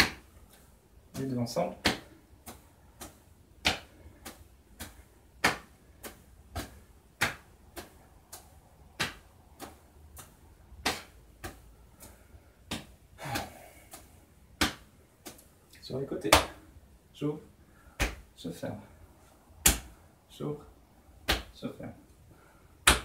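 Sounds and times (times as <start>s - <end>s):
palms slapping shoulders: 0.0s - 23.0s.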